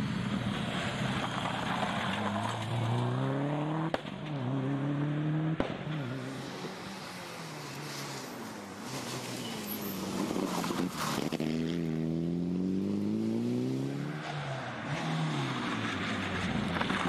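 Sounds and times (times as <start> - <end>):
rally car engine accelerating: 0.6 - 17.0.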